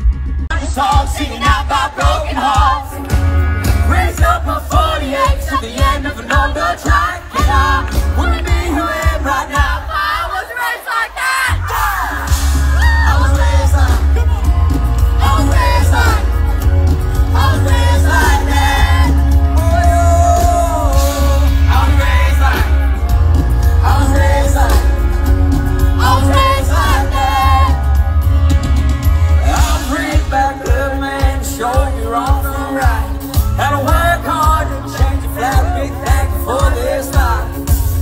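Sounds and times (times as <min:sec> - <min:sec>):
rock band playing: 0:00.0 - 0:10.4, 0:11.4 - 0:38.0
man singing: 0:00.5 - 0:10.0, 0:11.6 - 0:28.0, 0:29.2 - 0:38.0.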